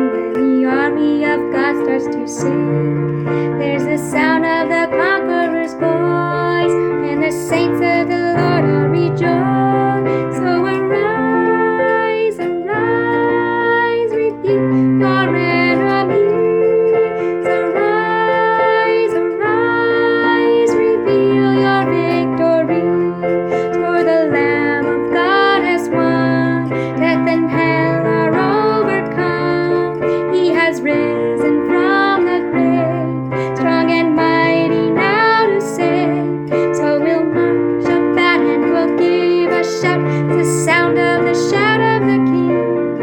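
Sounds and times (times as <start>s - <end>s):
worship song with keyboard: 0.0s - 43.0s.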